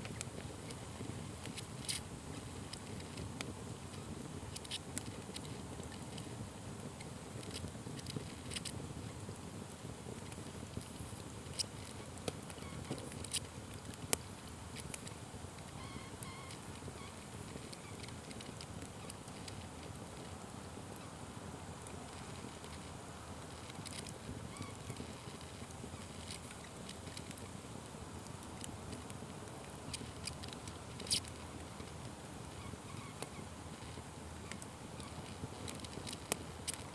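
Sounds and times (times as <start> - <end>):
fire popping: 0.0 - 36.9
low fire rumble: 0.0 - 36.9
wood fire crackling: 0.0 - 36.9.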